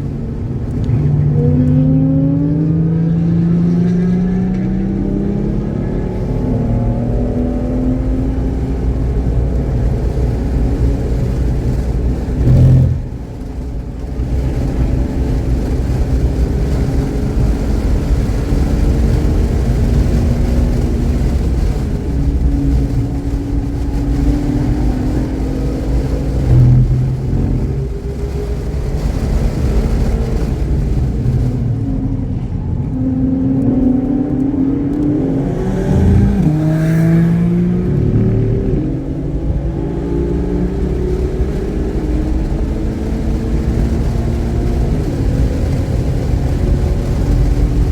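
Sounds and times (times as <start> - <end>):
car engine running hard: 0.0 - 47.9.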